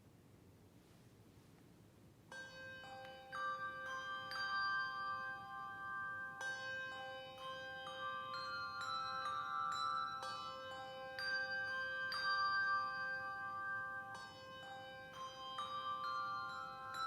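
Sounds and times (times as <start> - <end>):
handbell choir playing: 2.3 - 17.0.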